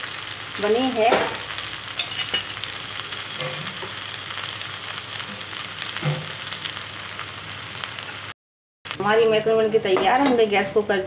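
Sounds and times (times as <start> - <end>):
food sizzling in a metal pan: 0.0 - 11.0.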